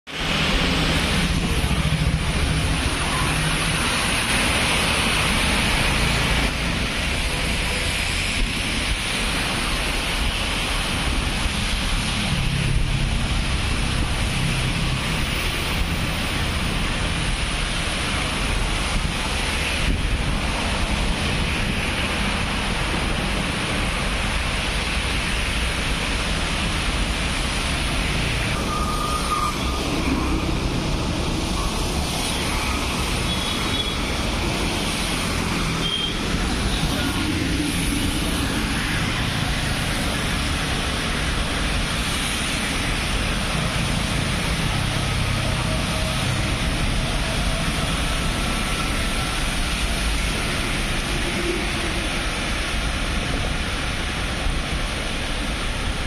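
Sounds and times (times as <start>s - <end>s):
tyres on wet road: 0.0s - 56.0s
rain: 0.1s - 56.0s.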